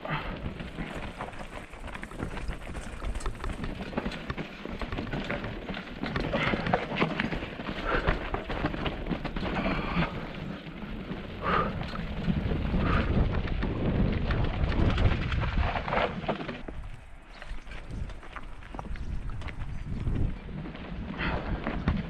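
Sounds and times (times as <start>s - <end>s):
bike rattling over bumps: 0.0s - 22.0s
tyres crunching over stones: 0.0s - 22.0s
wind rumbling on microphone: 0.0s - 22.0s.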